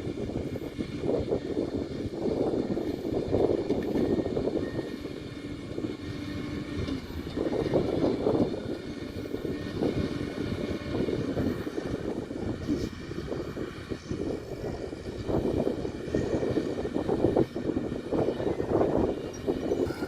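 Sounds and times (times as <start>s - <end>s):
bulldozer diesel engine rumbling: 0.0s - 20.0s.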